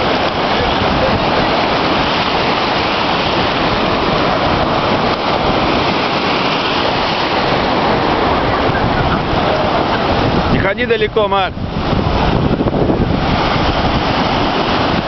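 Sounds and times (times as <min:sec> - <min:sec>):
sea surf washing onto shore: 0:00.0 - 0:15.0.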